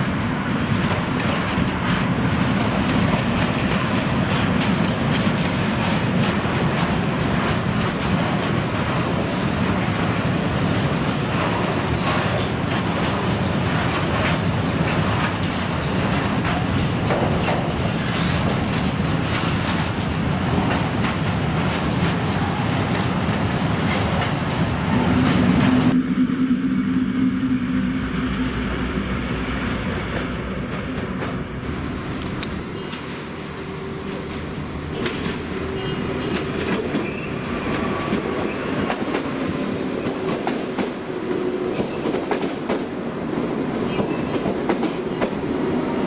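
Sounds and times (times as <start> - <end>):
train wheels clattering over rail joints: 0.6 - 25.9, 29.8 - 31.6, 34.0 - 46.0.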